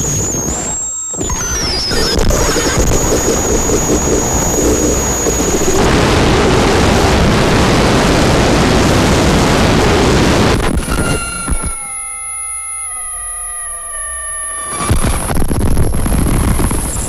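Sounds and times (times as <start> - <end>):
distorted static noise: 0.0 - 17.0.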